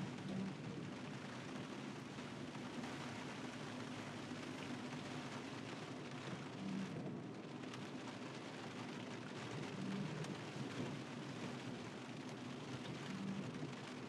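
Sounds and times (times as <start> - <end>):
rain hissing on car: 0.0 - 14.0
raindrop ticks: 0.0 - 14.0
road and tyre noise: 0.0 - 14.0.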